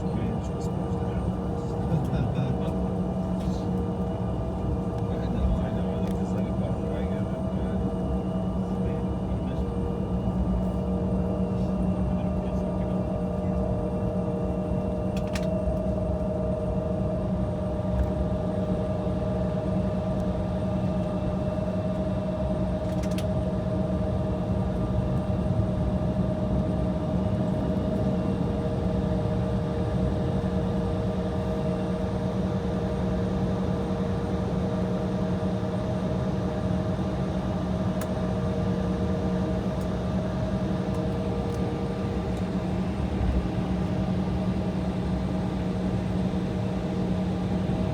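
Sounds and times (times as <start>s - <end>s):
aircraft cabin drone: 0.0s - 47.9s.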